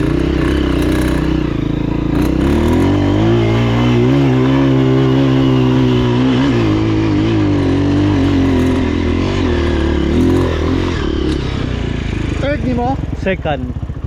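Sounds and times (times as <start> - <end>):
motorcycle engine running under load: 0.0 - 14.0.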